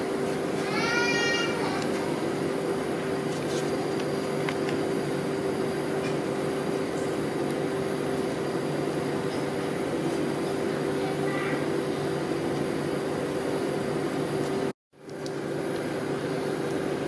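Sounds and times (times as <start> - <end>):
ice cream machine humming: 0.0 - 17.0.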